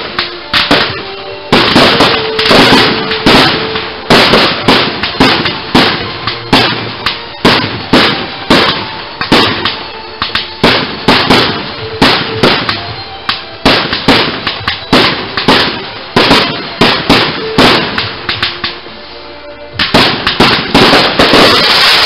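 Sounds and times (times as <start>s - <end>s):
fireworks bangs: 0.0s - 18.9s, 19.7s - 22.0s.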